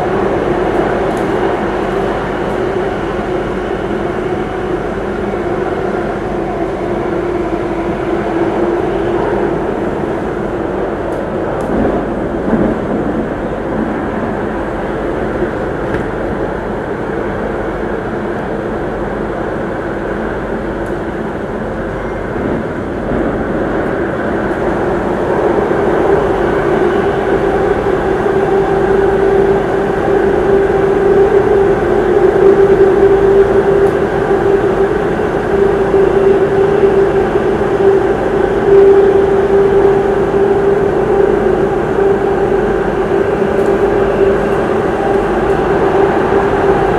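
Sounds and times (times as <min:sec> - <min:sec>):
steady humming tone: 0:00.0 - 0:46.9
train wheels rumbling: 0:00.0 - 0:46.9.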